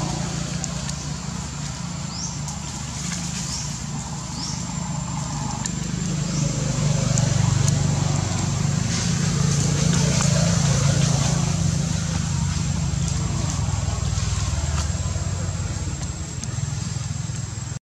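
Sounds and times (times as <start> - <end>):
low mechanical hum: 0.0 - 17.8.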